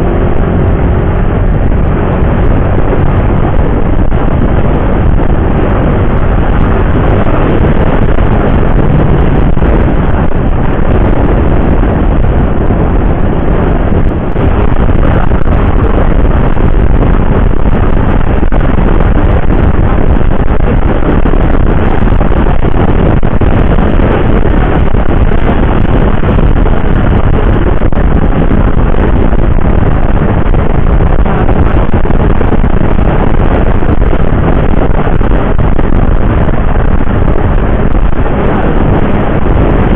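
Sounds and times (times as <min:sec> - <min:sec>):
motorcycle engine and wind noise: 0:00.0 - 0:39.9.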